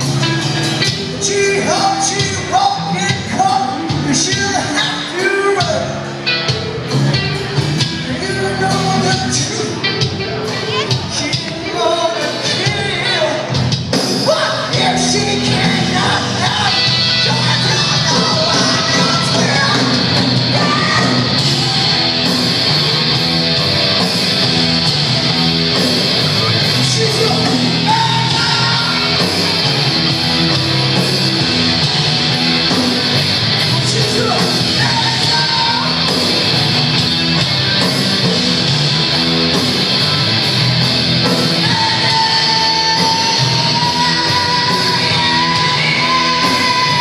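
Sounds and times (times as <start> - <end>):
live punk rock band: 0.0 - 47.0.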